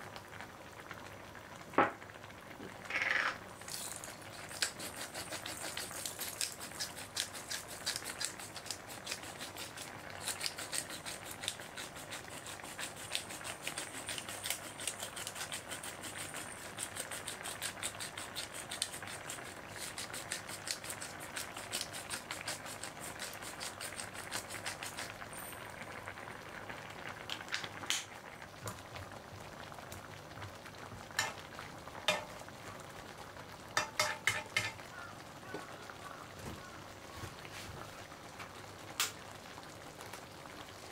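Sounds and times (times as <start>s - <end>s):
curry simmering in a frying pan: 0.0s - 40.9s.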